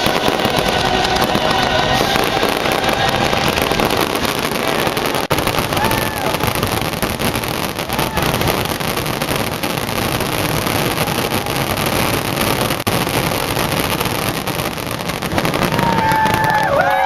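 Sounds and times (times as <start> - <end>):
fireworks barrage: 0.0 - 17.0.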